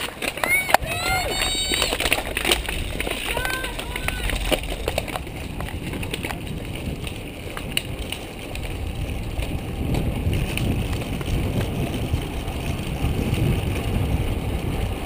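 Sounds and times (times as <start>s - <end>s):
tyre noise on asphalt: 0.0s - 15.0s
wind rumbling on microphone: 0.0s - 15.0s.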